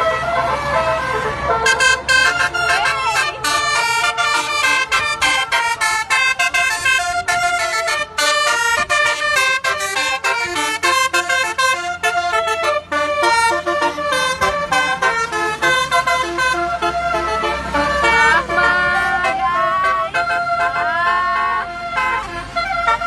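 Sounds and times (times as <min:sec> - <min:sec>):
low engine hum: 0:00.0 - 0:23.0
multi-tone bus horn melody: 0:00.0 - 0:23.0.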